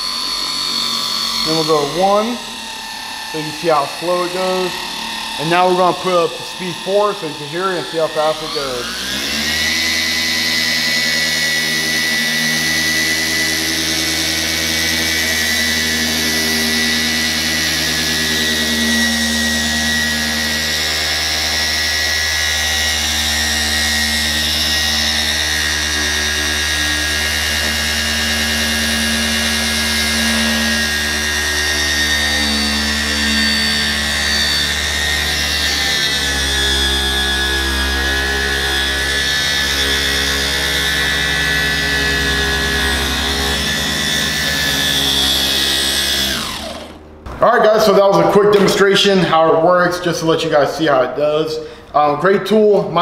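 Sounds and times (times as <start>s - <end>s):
polisher high whine: 0.0s - 53.0s.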